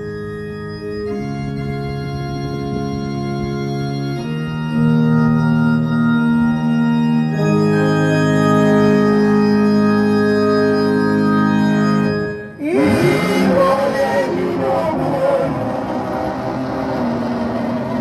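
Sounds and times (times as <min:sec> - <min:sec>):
keyboard playing organ chords: 0:00.0 - 0:18.0.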